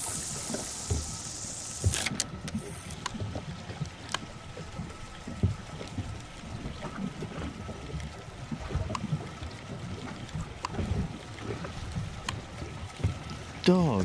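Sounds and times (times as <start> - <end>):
wind rumble on microphone: 0.0 - 13.7
water lapping against boat hull: 0.0 - 14.0.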